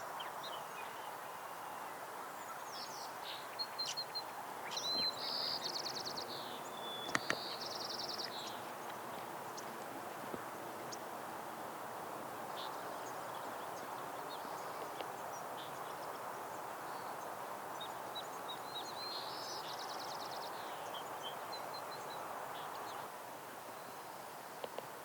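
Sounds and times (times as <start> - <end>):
small songbirds chirping: 0.0 - 24.7.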